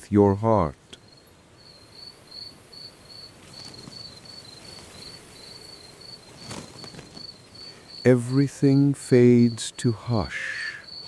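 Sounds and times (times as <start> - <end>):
faint steady hiss: 0.0 - 11.0
crickets chirping: 0.6 - 11.0.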